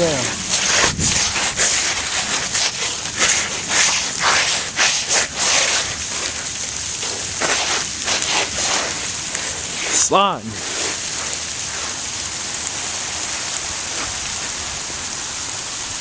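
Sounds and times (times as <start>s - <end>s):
feet sliding on ice: 0.0s - 15.2s
hail pattering on ice: 0.0s - 16.0s.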